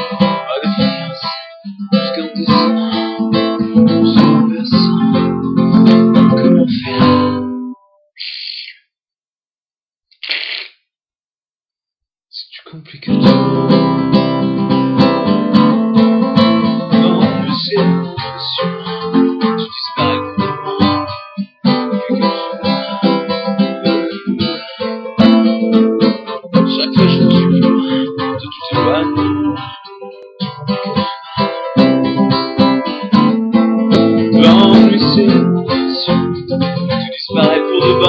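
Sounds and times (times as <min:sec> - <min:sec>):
acoustic guitar strumming chords: 0:00.0 - 0:07.8, 0:13.1 - 0:38.0.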